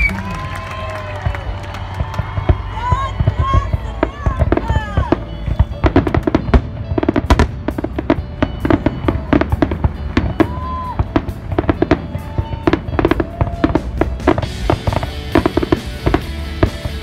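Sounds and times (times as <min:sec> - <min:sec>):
firework bangs and crackles: 0:00.0 - 0:17.0.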